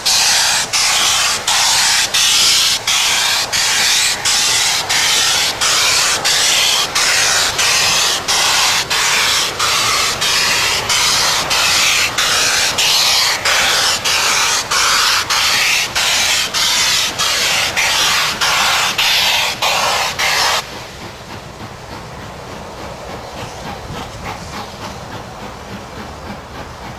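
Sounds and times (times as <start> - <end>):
rumble of passing train cars: 0.0 - 26.9
steam locomotive hiss pulsing: 0.0 - 26.9.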